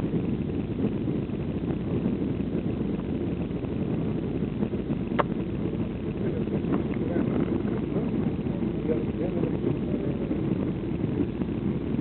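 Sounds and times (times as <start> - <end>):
airplane cabin engine noise: 0.0 - 12.0.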